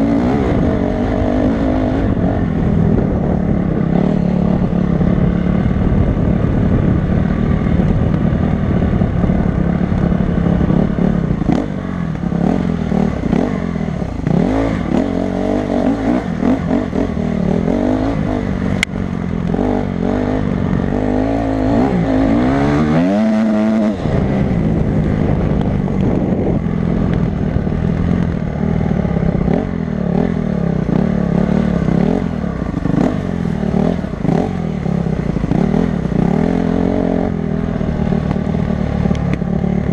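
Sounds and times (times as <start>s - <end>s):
dirt bike engine revving: 0.0s - 7.8s, 10.3s - 18.8s, 19.4s - 27.1s, 28.0s - 39.0s.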